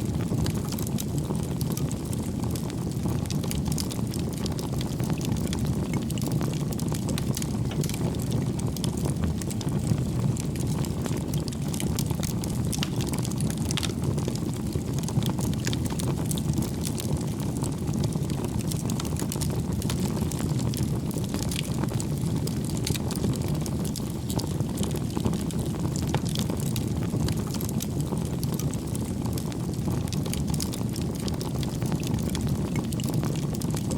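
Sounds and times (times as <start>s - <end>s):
logs crackling and popping: 0.0s - 33.9s
low rumble of flames: 0.0s - 33.9s.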